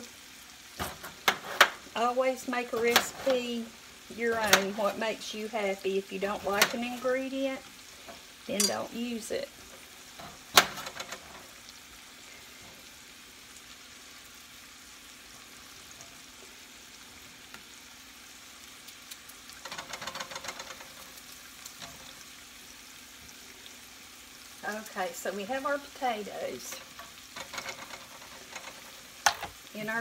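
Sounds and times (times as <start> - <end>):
chicken sizzling in skillet: 0.0 - 30.0.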